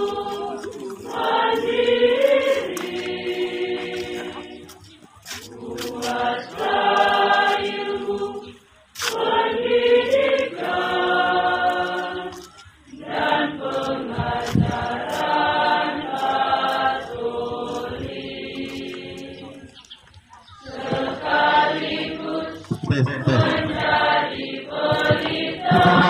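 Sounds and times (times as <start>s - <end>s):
group of voices singing: 0.0s - 19.7s, 20.6s - 26.0s.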